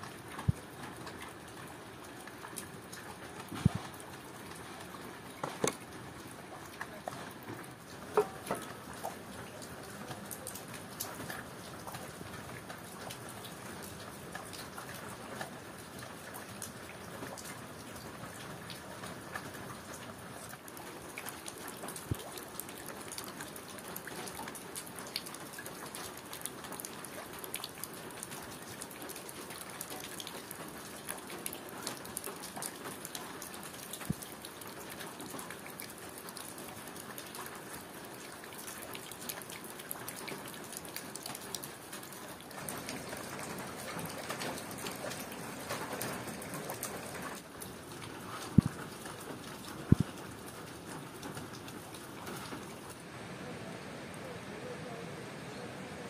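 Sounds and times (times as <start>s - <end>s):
rain drops tapping: 0.0s - 53.2s.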